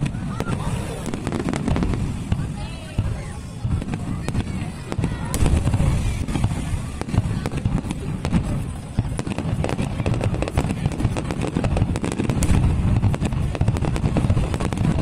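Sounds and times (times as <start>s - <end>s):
fireworks booming: 0.0s - 15.0s
fireworks crackling: 0.0s - 15.0s.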